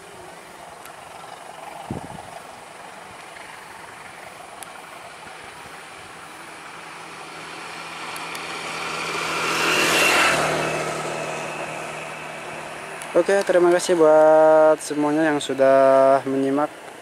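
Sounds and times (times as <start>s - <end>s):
motor vehicle passing by: 0.0s - 16.8s.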